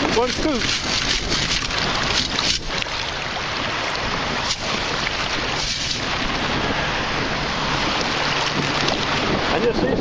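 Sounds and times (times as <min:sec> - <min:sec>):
water splashes: 0:00.0 - 0:10.0
waves washing: 0:00.0 - 0:10.0
wind buffeting microphone: 0:00.0 - 0:10.0.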